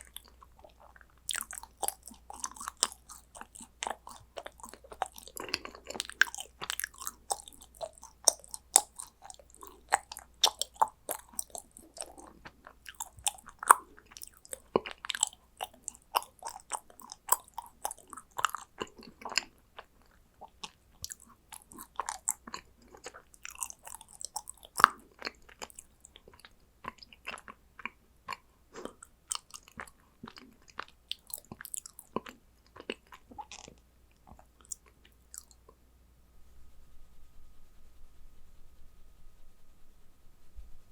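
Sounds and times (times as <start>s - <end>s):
chewing and biting cookies: 0.0s - 35.8s.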